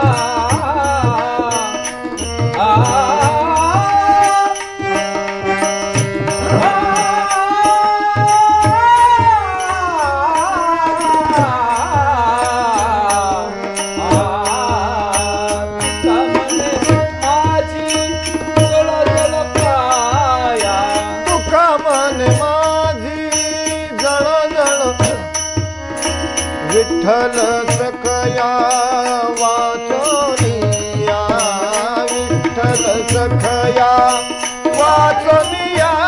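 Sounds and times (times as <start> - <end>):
harmonium: 0.0 - 36.0
person singing ornamented notes: 0.0 - 36.0
tabla playing: 0.0 - 36.0.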